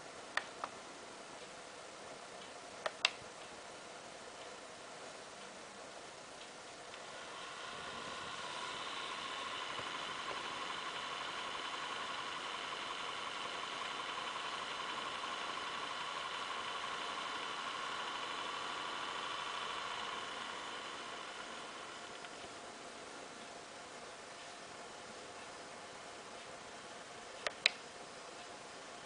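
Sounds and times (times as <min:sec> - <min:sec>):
laptop cooling fan whining: 0:00.0 - 0:29.0.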